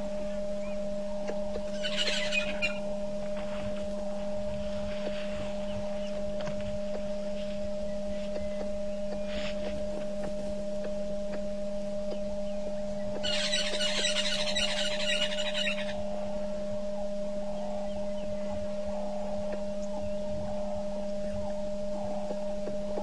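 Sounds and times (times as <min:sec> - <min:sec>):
birds chirping: 0:00.0 - 0:03.0, 0:03.7 - 0:23.0
steady low hum: 0:00.0 - 0:23.0.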